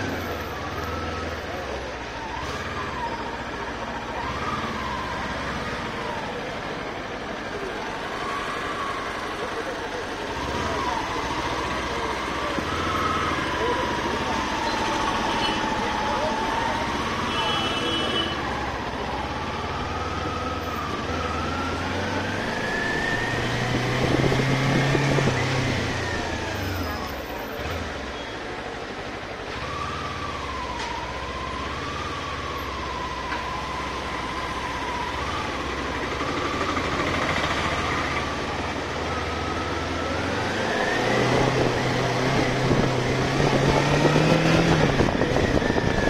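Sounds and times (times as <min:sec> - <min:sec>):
traffic rumble: 0:00.0 - 0:46.0.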